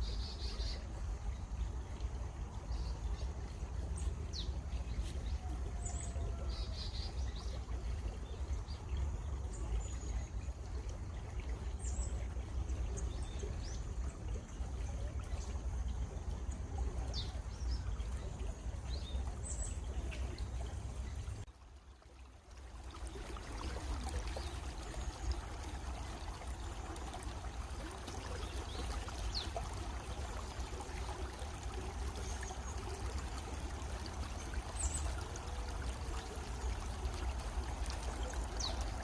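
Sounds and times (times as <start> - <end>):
stream flowing: 0.0 - 39.0.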